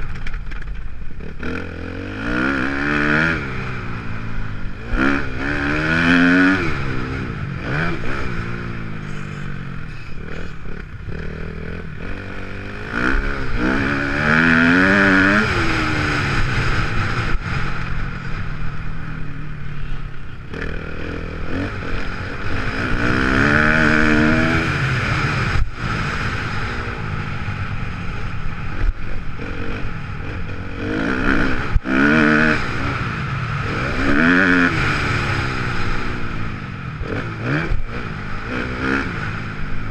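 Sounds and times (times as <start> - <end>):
dirt bike engine revving: 1.1 - 39.9.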